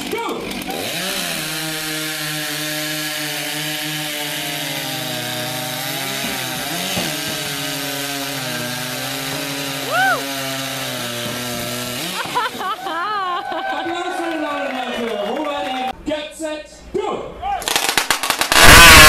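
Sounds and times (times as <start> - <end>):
chainsaws cutting logs: 0.0 - 14.6, 17.7 - 19.0.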